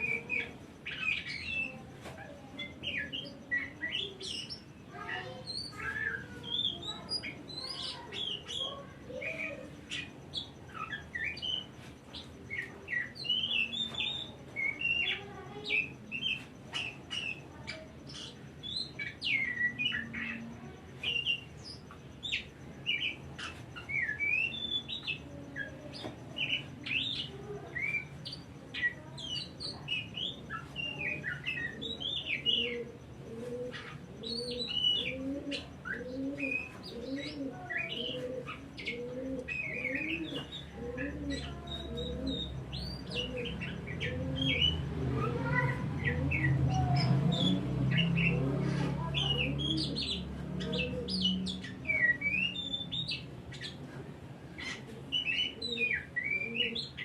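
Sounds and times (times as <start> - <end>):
bird singing: 0.0 - 57.0
repeated low bird notes: 0.0 - 57.0.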